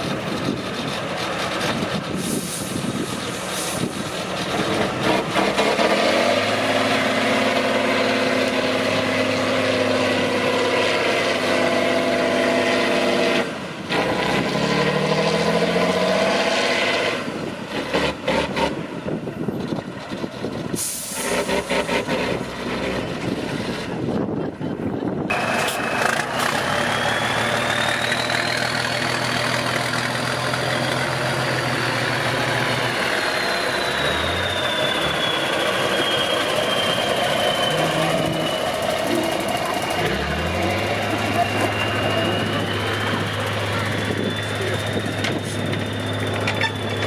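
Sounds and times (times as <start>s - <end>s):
truck engine revving: 0.0s - 47.0s.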